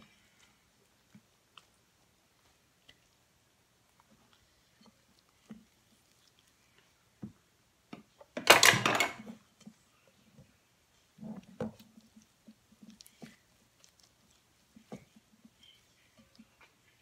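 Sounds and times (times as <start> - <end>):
hands squishing sticky filling: 0.0 - 7.9, 9.4 - 17.0.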